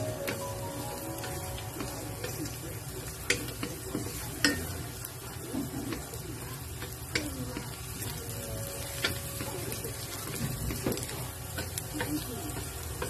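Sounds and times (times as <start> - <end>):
garlic and onion sizzling in oil: 0.0 - 13.0.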